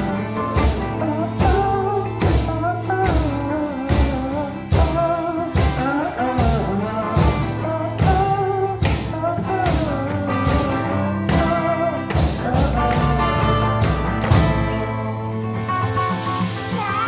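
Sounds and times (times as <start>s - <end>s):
person singing: 0.0s - 14.0s, 16.4s - 17.0s
acoustic and electric guitar: 0.0s - 17.0s.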